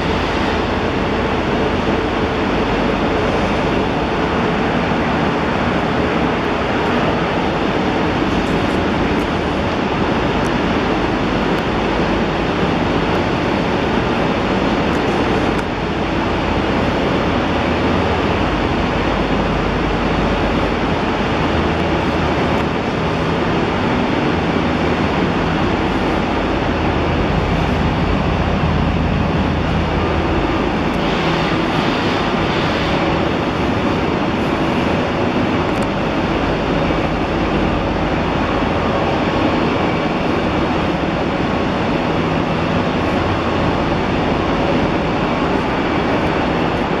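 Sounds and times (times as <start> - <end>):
train ventilation rushing hum: 0.0 - 47.0.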